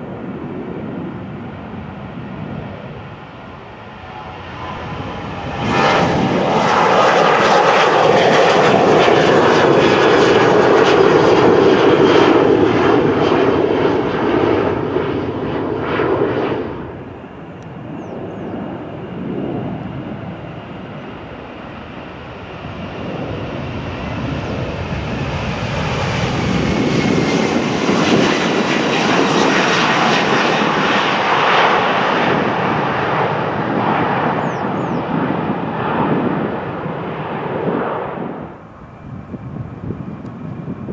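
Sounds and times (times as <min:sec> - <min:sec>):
jet airliner taking off: 0:00.0 - 0:40.9.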